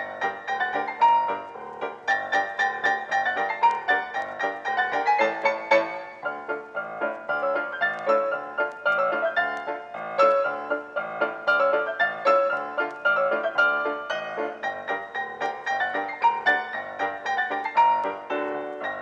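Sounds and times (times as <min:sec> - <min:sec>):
background instrumental music: 0:00.0 - 0:19.0.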